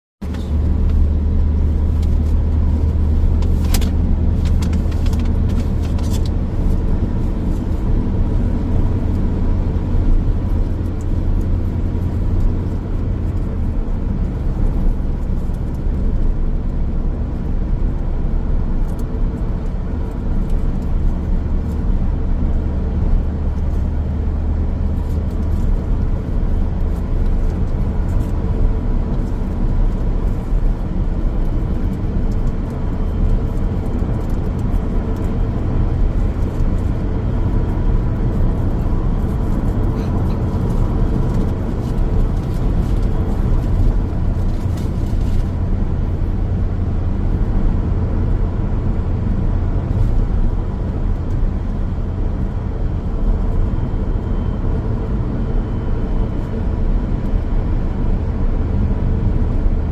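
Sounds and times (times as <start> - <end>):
car driving on road: 0.2 - 59.9.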